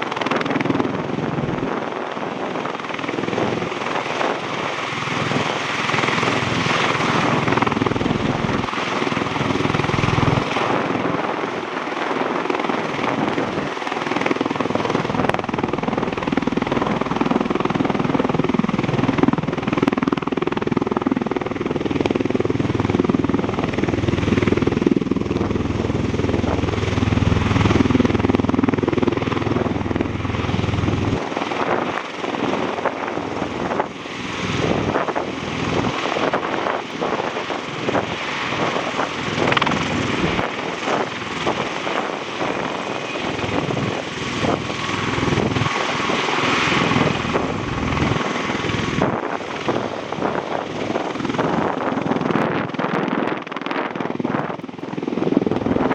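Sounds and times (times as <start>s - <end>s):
tiltrotor aircraft flying: 0.0s - 55.9s.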